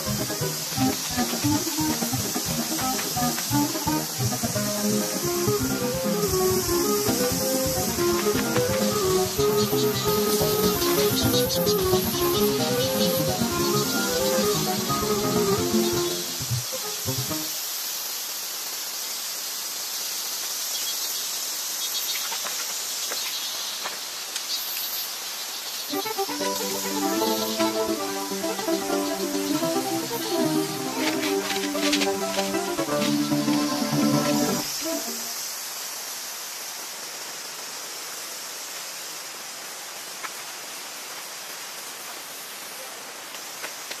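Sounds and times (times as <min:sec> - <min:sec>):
high-pitched insect chorus: 0:00.0 - 0:37.2
steady outdoor hiss: 0:00.0 - 0:44.0.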